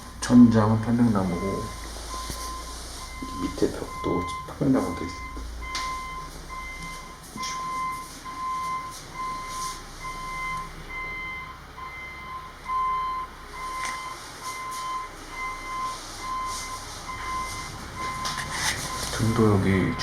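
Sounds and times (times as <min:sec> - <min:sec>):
electronic warning beeper: 0:00.0 - 0:20.0.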